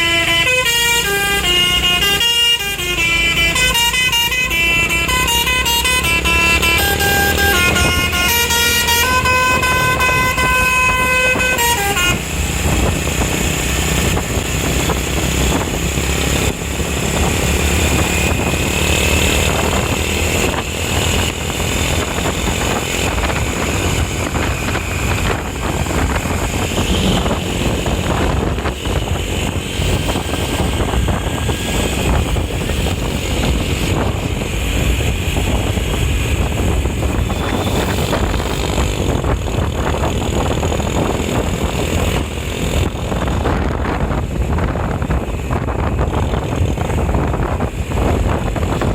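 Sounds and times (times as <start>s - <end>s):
bus musical horn: 0.0s - 39.7s
road traffic noise: 0.0s - 48.9s.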